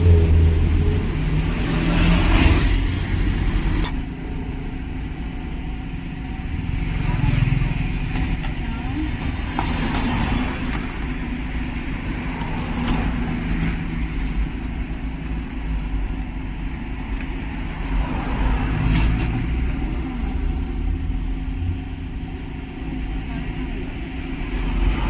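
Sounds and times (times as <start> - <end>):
steady engine hum: 0.0 - 25.0.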